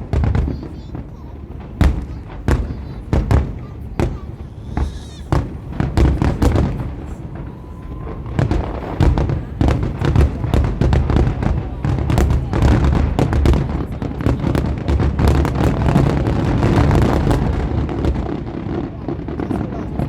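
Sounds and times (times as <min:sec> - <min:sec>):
fireworks booming and cracking: 0:00.0 - 0:20.0.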